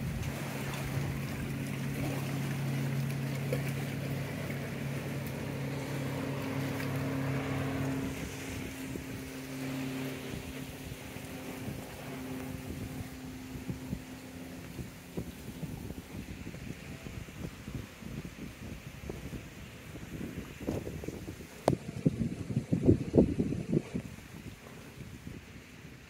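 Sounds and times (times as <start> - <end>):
speedboat engine droning: 0.0 - 26.0.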